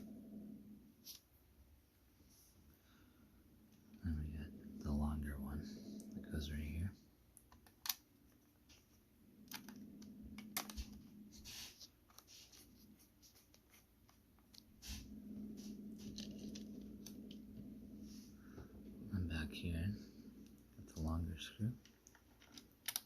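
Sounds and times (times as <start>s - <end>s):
low hum: 0.0s - 7.5s, 8.2s - 21.8s.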